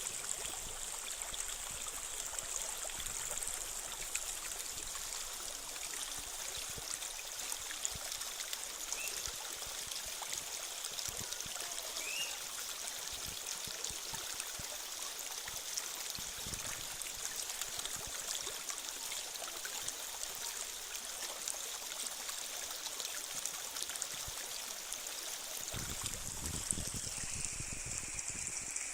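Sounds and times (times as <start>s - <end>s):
creek water rushing: 0.0s - 28.9s.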